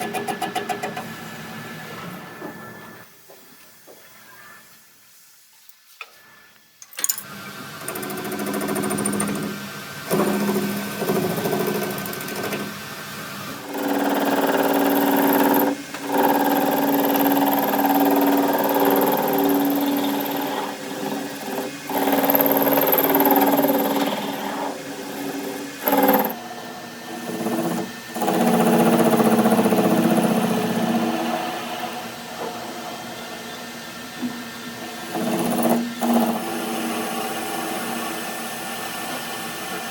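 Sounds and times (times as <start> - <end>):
power tool motor running: 7.4 - 39.9.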